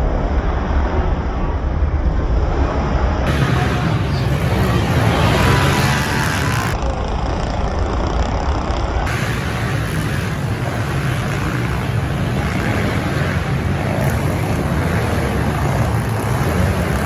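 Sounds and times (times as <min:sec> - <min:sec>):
pit bike engines racing: 0:02.6 - 0:17.0.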